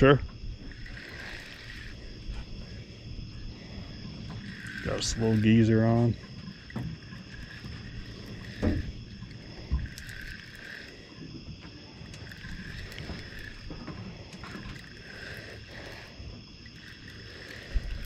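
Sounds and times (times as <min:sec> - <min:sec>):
fishing reel cranking: 0:00.0 - 0:18.0
night insects chorus: 0:00.0 - 0:18.0.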